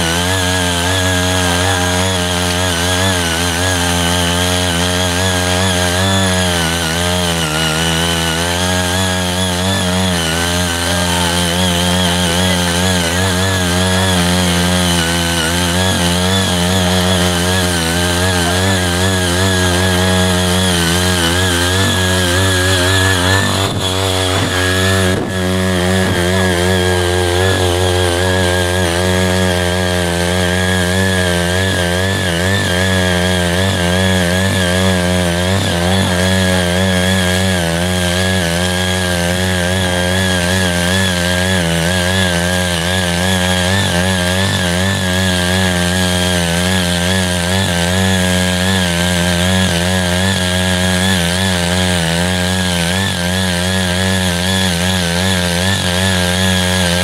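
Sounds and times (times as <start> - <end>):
power tiller engine running: 0.0 - 57.0.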